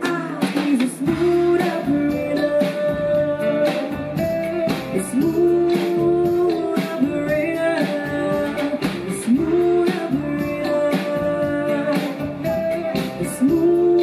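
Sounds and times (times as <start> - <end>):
drums steady beat: 0.0 - 14.0
woman singing: 0.0 - 14.0.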